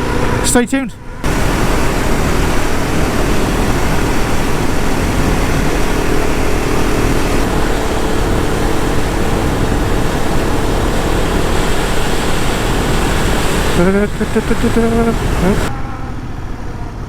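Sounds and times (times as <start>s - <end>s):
motorcycle engine: 0.0s - 17.0s
wind rush on microphone: 0.0s - 17.0s.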